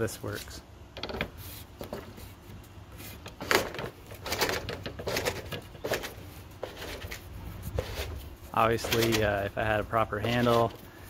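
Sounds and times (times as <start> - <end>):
awning mechanism scraping and rattling: 0.3 - 11.0.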